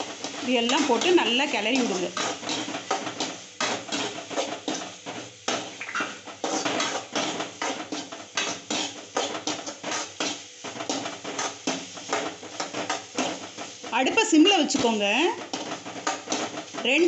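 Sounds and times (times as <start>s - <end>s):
potatoes frying in oil: 0.0s - 17.0s
spoon scraping metal pan: 0.2s - 17.0s.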